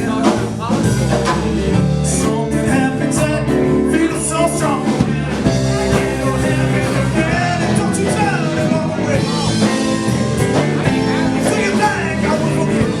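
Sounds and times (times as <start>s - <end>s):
bass guitar: 0.0s - 13.0s
electric guitar: 0.0s - 13.0s
person singing: 0.0s - 13.0s.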